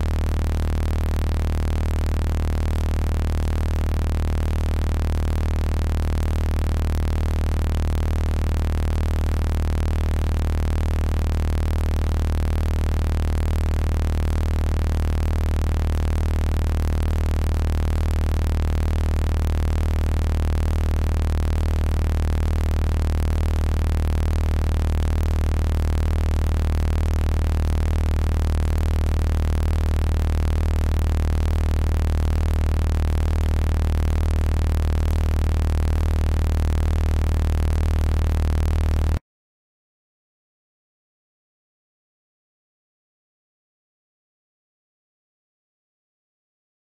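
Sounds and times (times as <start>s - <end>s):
deep electronic hum with higher tones: 0.0s - 39.2s.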